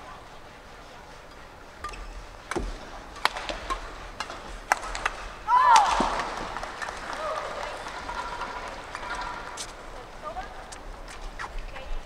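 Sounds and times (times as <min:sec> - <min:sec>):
low hush of hall: 0:00.0 - 0:12.0.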